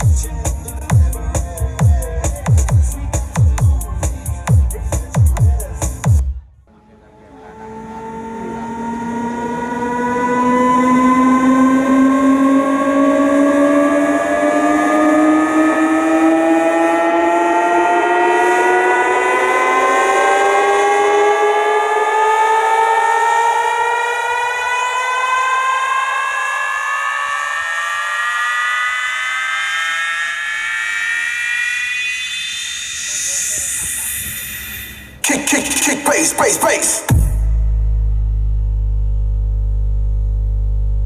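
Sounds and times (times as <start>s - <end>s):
loud sustained tone over speakers: 5.6s - 41.0s.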